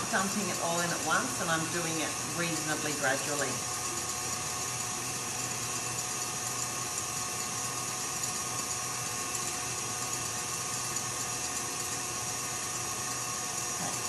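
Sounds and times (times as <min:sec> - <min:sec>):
stand mixer whisking: 0:00.0 - 0:14.0.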